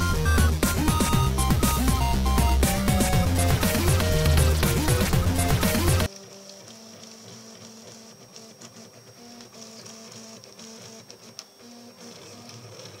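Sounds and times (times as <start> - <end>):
three d printer stepper motors: 0.2 - 13.0.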